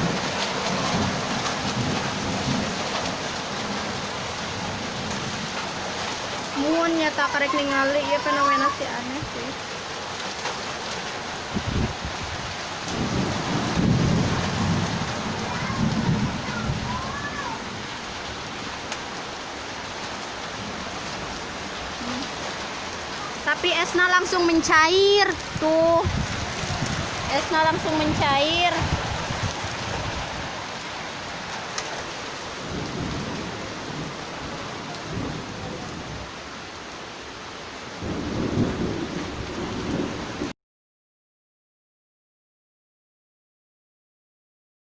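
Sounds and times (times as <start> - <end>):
heavy rain and hail: 0.0 - 40.5.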